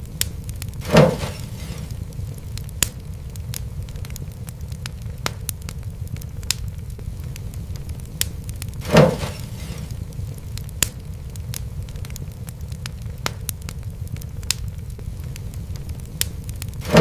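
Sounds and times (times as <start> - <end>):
fire crackling: 0.0 - 17.0
fire pop and hiss: 0.0 - 17.0
low steady rumble: 0.0 - 17.0.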